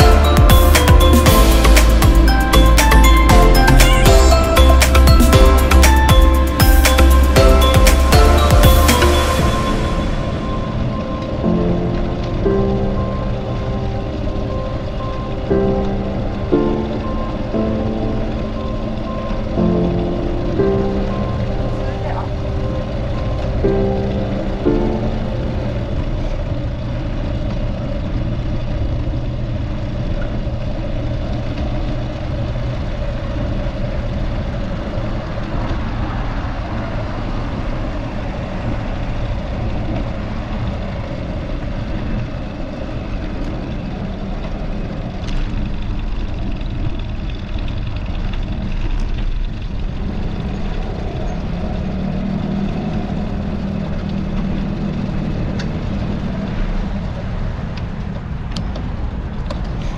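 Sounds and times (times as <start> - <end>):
motor traffic: 0.0 - 59.9
road and wind noise: 0.0 - 59.9.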